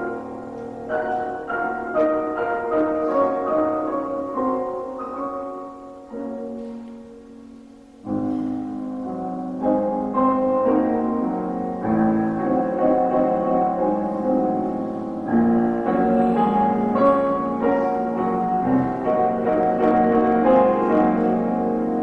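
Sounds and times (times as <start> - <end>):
slow piano piece: 0.0 - 22.0.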